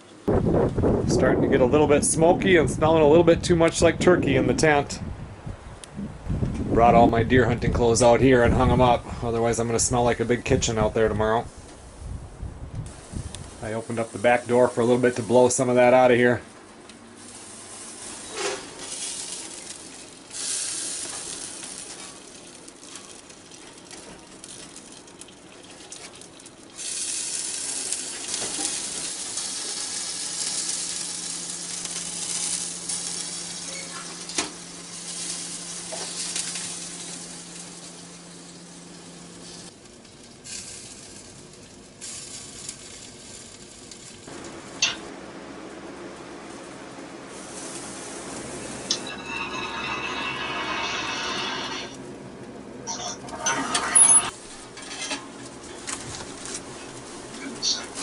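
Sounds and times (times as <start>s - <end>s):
wood stove sizzling hiss: 7.6s - 52.1s, 52.9s - 58.0s.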